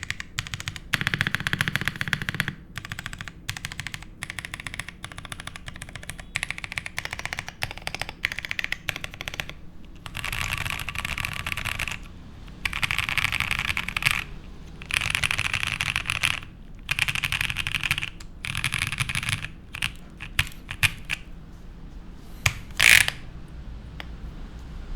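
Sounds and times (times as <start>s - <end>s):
typing on mechanical keyboard: 0.0s - 21.3s, 22.4s - 23.3s.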